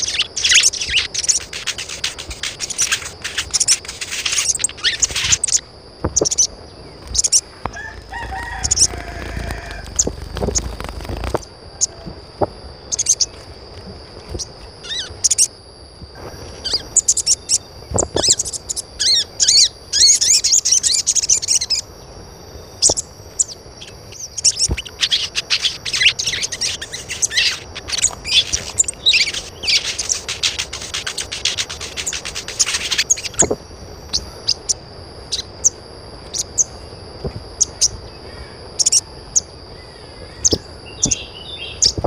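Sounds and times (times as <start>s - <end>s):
birds chirping: 0.0s - 12.2s, 12.8s - 15.6s, 16.2s - 42.0s.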